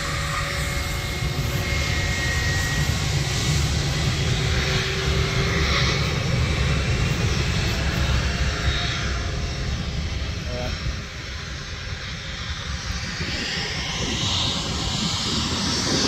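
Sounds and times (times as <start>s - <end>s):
jet engines at takeoff: 0.0s - 16.0s.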